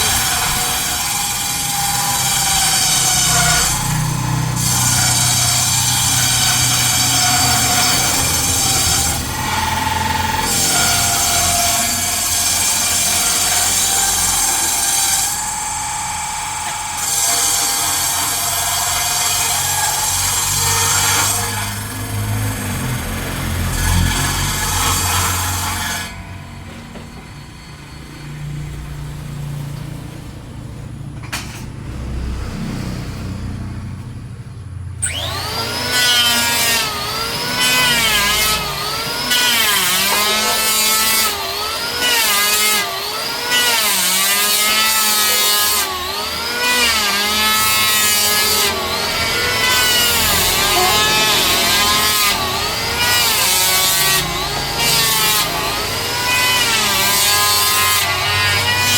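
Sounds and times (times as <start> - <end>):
power tool cutting wood: 0.0 - 27.2, 35.0 - 58.9.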